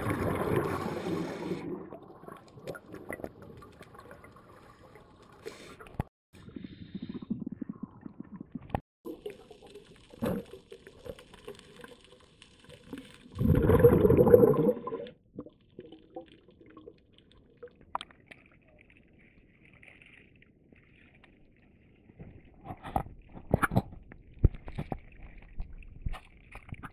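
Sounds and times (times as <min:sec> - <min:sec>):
bubbling: 0:00.0 - 0:26.9
underwater water noise: 0:00.0 - 0:26.9
water sloshing and splashing: 0:00.0 - 0:26.9.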